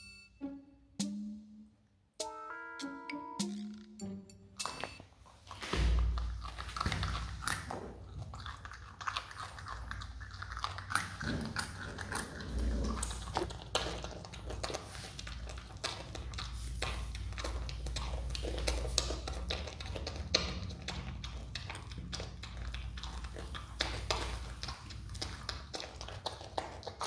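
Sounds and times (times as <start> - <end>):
animal gnawing a carrot: 5.2 - 27.0.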